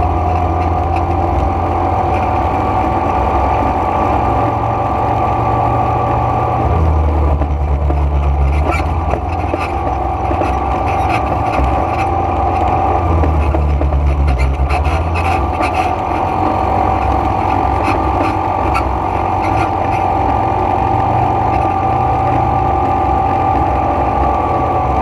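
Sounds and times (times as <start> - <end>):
atv engine revving: 0.0 - 25.0.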